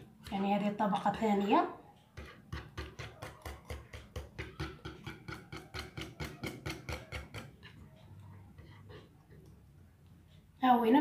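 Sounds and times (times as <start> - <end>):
utensil beating mixture in pot: 0.0 - 9.8.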